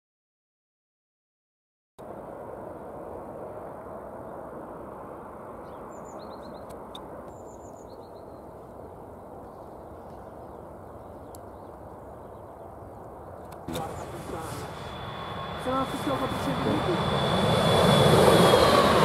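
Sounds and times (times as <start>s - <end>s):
low rumble of background noise: 2.0s - 17.8s.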